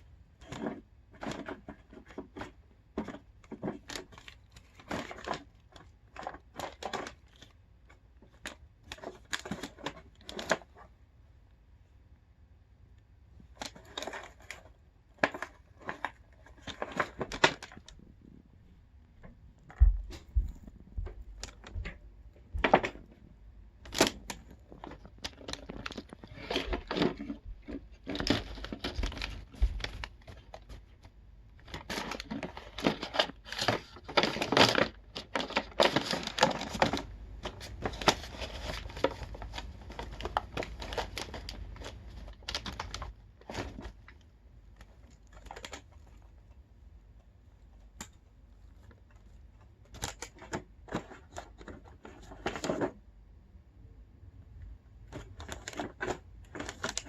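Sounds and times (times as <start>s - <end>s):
crinkling and crunching: 0.1s - 11.0s, 13.4s - 53.2s, 54.6s - 57.0s.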